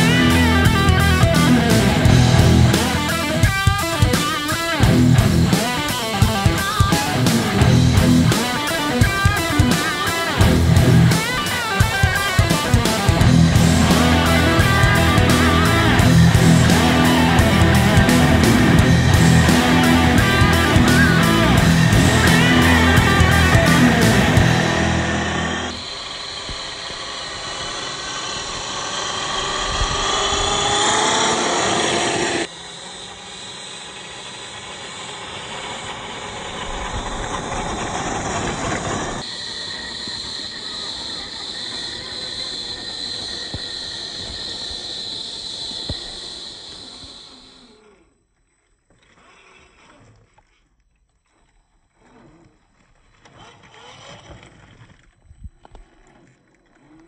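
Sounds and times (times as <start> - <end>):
electric motor whining: 0.0 - 50.2, 52.0 - 57.0.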